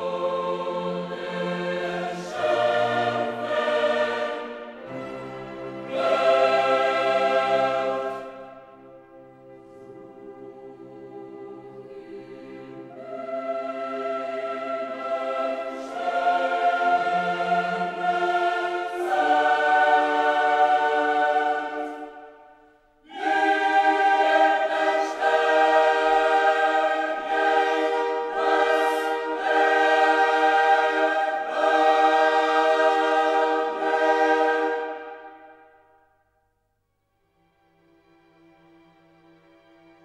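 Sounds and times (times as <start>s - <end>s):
choir singing held chords: 0.0s - 36.3s.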